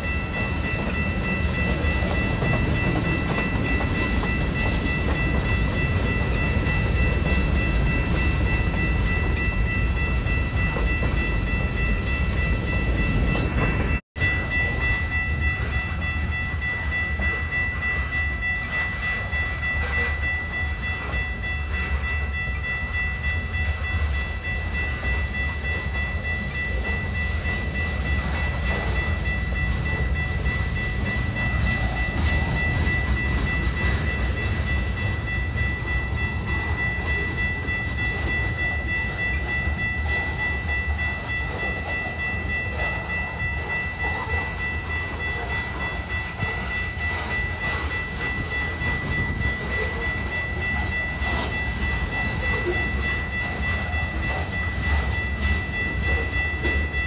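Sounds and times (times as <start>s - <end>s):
constant high-pitched tone: 0.0s - 57.0s
train wheels rumbling on rails: 0.0s - 57.0s.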